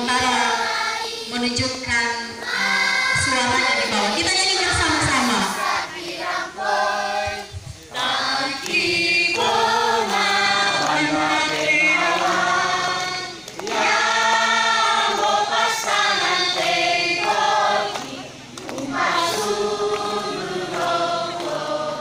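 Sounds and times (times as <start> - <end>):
children's choir singing: 0.0 - 1.6, 2.2 - 22.0.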